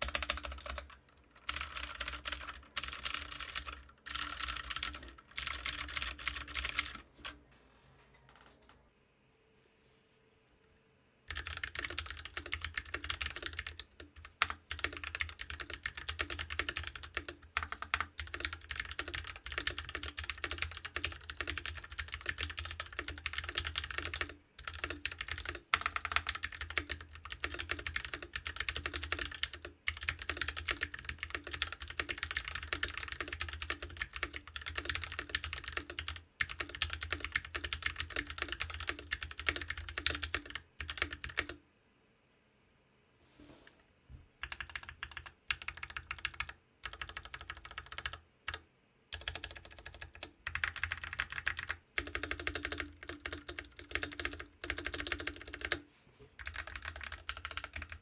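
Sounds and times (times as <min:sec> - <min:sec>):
mechanical keyboard typing: 0:00.0 - 0:07.4, 0:08.2 - 0:08.8, 0:11.3 - 0:41.6, 0:44.4 - 0:55.8, 0:56.4 - 0:58.0.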